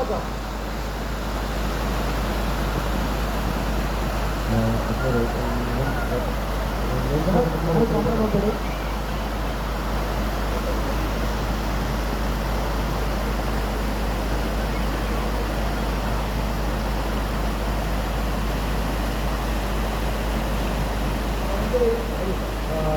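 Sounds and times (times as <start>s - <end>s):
waterfall rushing: 0.2s - 22.9s.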